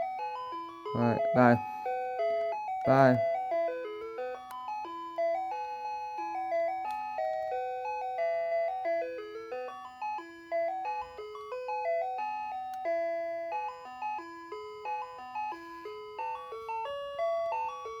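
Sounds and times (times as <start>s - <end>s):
ice cream truck chime melody: 0.0s - 18.0s.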